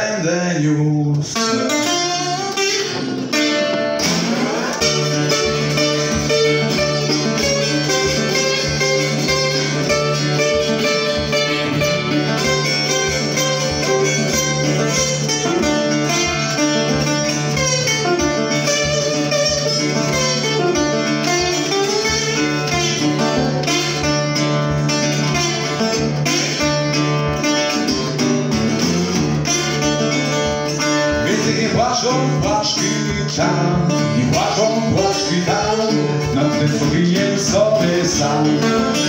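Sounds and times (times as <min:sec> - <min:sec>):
picked guitar notes: 0:00.8 - 0:39.0
low droning guitar note: 0:01.4 - 0:39.0.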